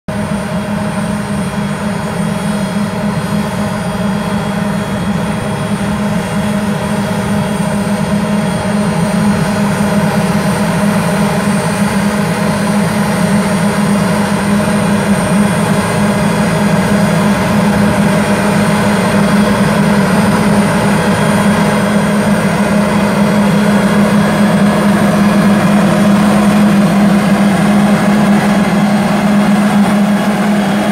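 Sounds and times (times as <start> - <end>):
tractor engine drone: 0.1 - 30.9
vacuum blowers humming: 0.7 - 30.9.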